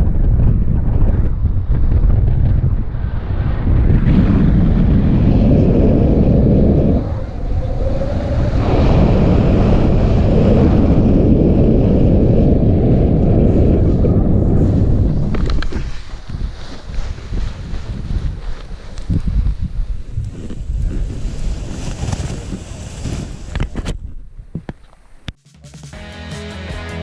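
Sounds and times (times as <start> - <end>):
wind buffeting microphone: 0.0 - 24.7.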